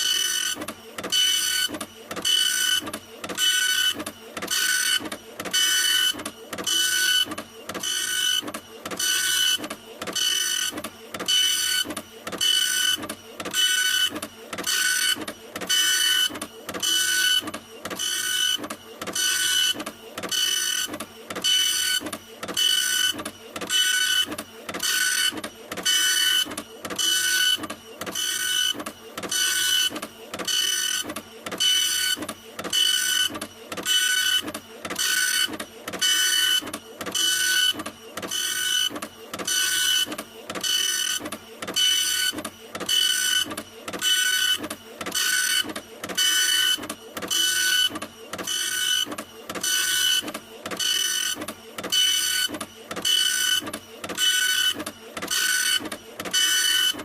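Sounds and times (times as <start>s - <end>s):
printer whirring: 0.0s - 57.0s.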